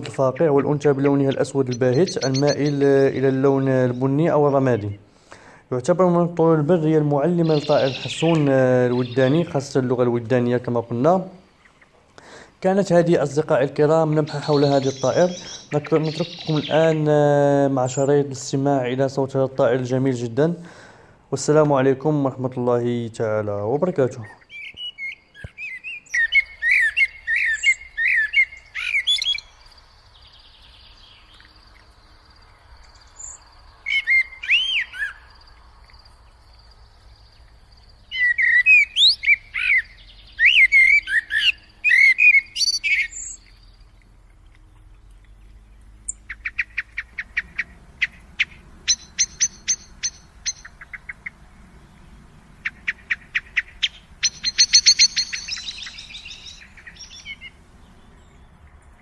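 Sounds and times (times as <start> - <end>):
blackbird singing: 0.0 - 20.8, 23.5 - 59.0.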